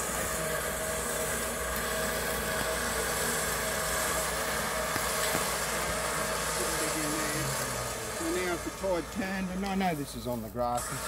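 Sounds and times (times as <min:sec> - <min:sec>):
anchor dragging across lawn: 0:00.0 - 0:11.0
vehicle engine humming: 0:00.0 - 0:11.0.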